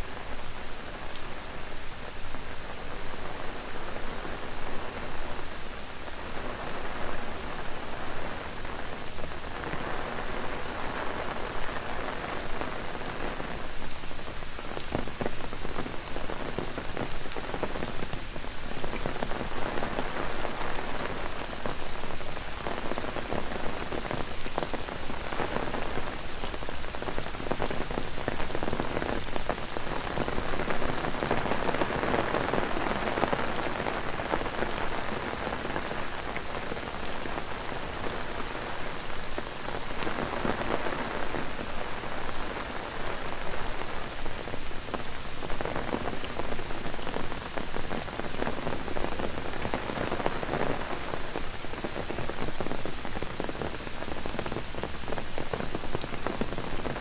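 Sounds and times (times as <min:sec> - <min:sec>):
rain pattering on an umbrella: 0:00.0 - 0:57.0
cicadas buzzing: 0:04.3 - 0:57.0.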